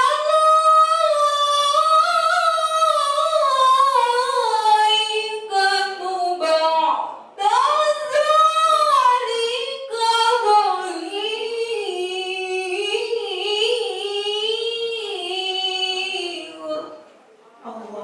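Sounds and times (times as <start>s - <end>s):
woman reciting melodically: 0.0s - 18.0s.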